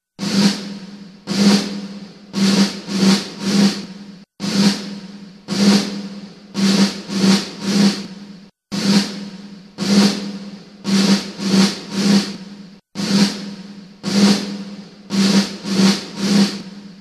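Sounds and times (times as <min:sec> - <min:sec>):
drum strikes with low tone: 0:00.0 - 0:17.0.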